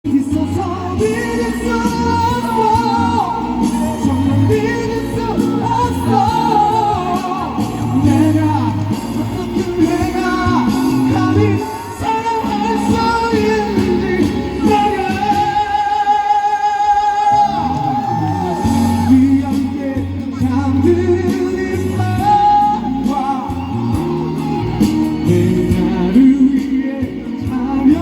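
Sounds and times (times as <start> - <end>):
person singing through an amplifier: 0.0 - 28.0
backing music: 0.1 - 28.0.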